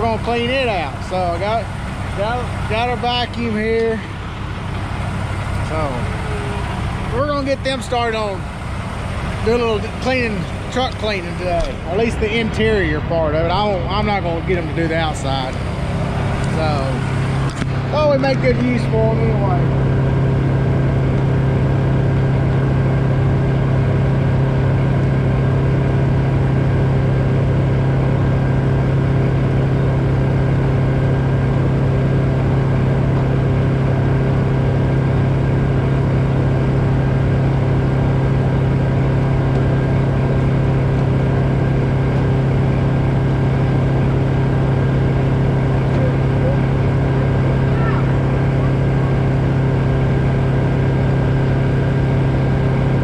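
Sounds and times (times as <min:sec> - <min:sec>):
machine humming: 0:00.0 - 0:53.0.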